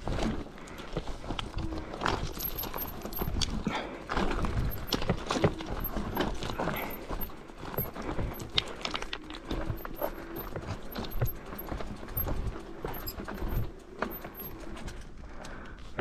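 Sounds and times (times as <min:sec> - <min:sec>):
footsteps on rocky ground: 0:00.0 - 0:16.0.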